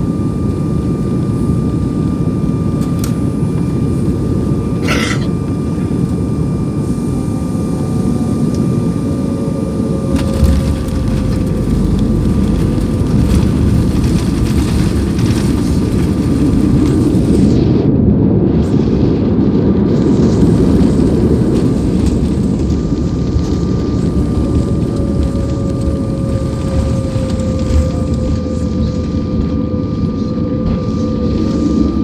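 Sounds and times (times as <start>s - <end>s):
thin steady whine: 0.0s - 17.7s, 18.7s - 32.0s
airliner engine low rumble: 0.0s - 32.0s.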